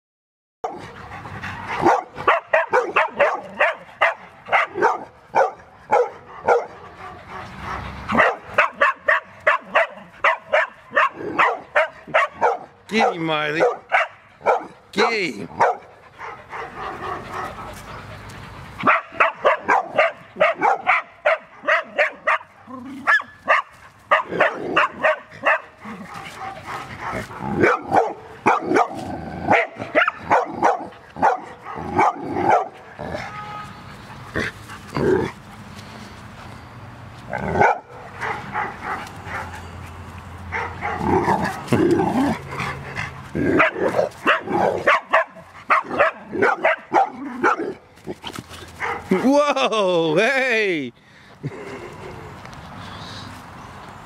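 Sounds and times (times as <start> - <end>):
puppies barking: 0.6 - 34.6, 37.4 - 39.8, 40.4 - 47.8, 48.6 - 49.3.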